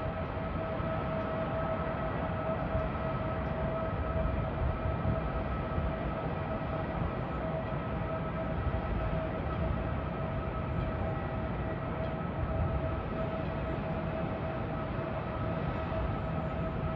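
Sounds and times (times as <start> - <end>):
steady high whine: 0.0 - 16.9.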